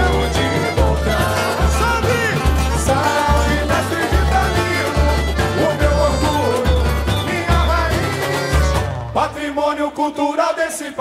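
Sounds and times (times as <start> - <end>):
light samba accompaniment: 0.0 - 9.5
person singing: 0.0 - 11.0.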